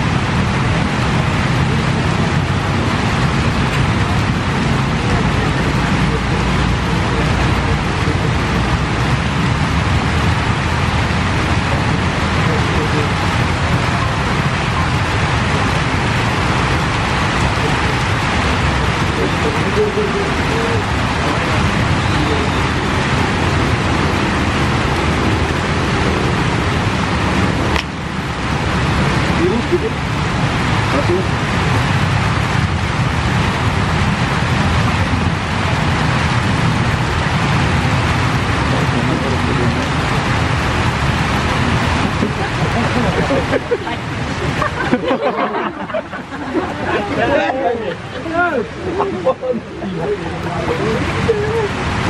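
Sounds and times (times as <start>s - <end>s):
rain hissing: 0.0s - 52.0s.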